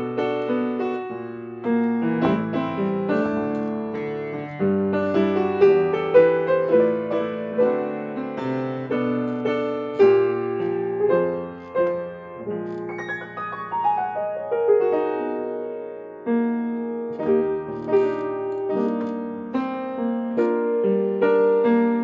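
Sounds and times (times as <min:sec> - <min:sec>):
solo upright piano: 0:00.0 - 0:22.0.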